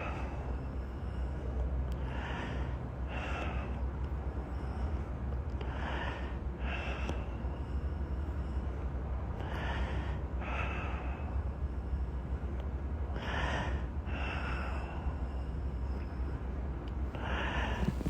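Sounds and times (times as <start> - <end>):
man breathing heavily: 0.0 - 12.2, 13.0 - 15.5, 17.1 - 18.0
low hum: 0.0 - 18.0.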